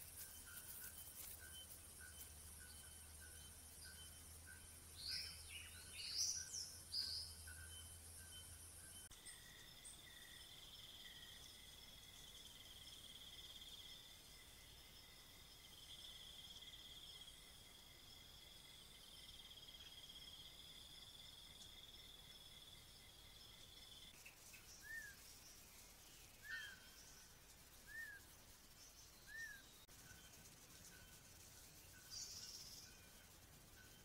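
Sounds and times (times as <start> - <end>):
cricket-like insect trill: 0.0 - 34.0.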